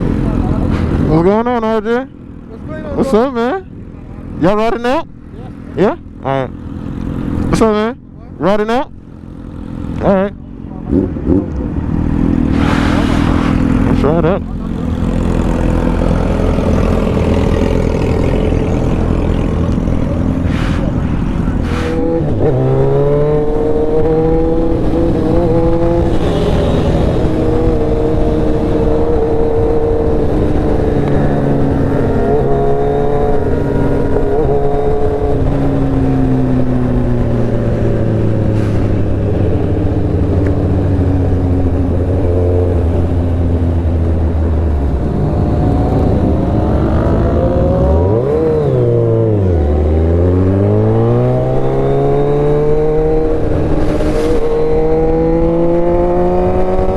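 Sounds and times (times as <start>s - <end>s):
motorcycle engine accelerating: 5.8s - 56.9s.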